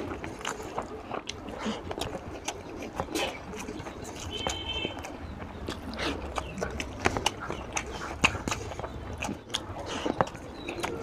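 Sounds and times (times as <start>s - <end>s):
person chewing with mouth clicks: 0.0s - 11.0s.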